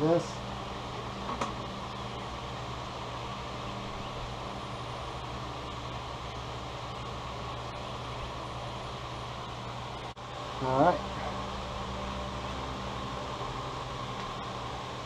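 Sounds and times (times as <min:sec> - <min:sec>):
fan-driven machine humming: 0:00.0 - 0:15.0.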